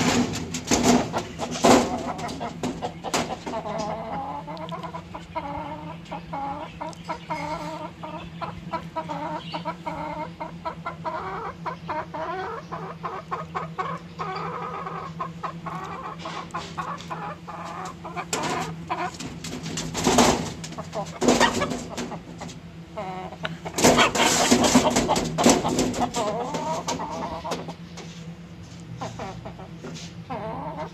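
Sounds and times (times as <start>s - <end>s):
chickens clucking: 0.0s - 30.9s
steady low hum: 0.0s - 30.9s.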